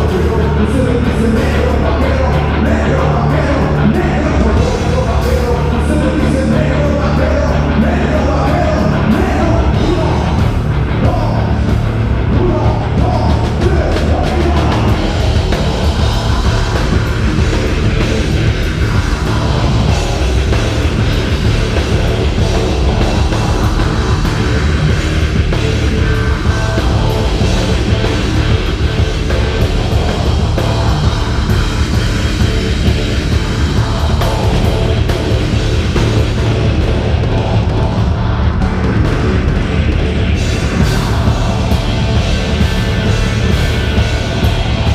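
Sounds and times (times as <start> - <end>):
heavy rock band playing: 0.0 - 44.9.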